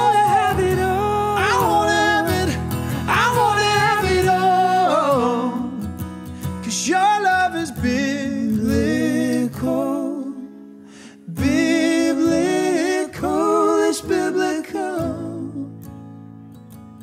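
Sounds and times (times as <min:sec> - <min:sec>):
man singing wordless notes: 0:00.0 - 0:06.0, 0:06.6 - 0:10.6, 0:11.2 - 0:15.7.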